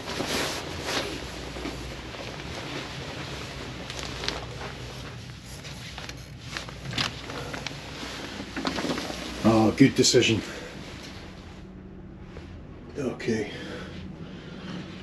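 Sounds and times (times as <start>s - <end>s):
faint rustles: 0.0s - 12.9s, 13.5s - 15.0s
low machinery hum: 0.0s - 15.0s.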